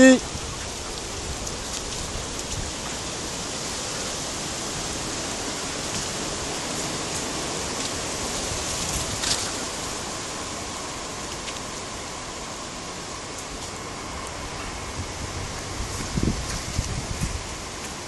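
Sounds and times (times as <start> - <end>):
rushing hiss on phone microphone: 0.0 - 18.0
rustle: 0.0 - 18.0.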